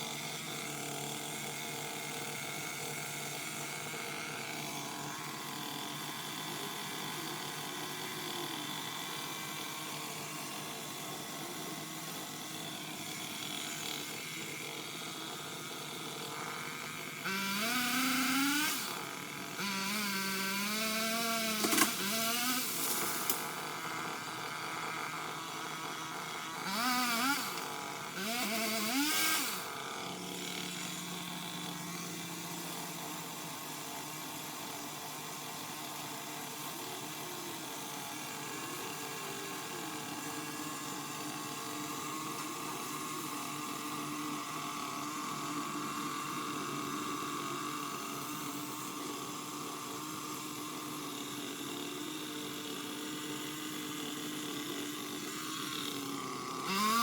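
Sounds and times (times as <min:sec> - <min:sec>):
small engine running and revving: 0:00.0 - 0:57.0.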